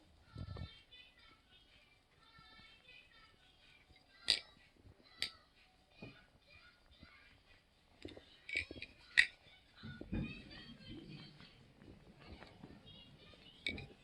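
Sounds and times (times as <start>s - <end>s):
faint background music or voices: 0.0s - 14.0s.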